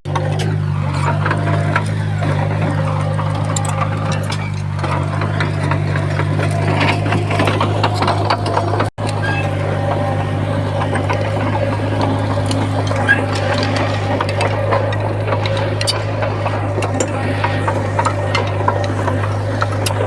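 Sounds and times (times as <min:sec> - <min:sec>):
diesel engine drone: 0:00.0 - 0:20.0
metallic clanking and rattling: 0:00.1 - 0:20.0.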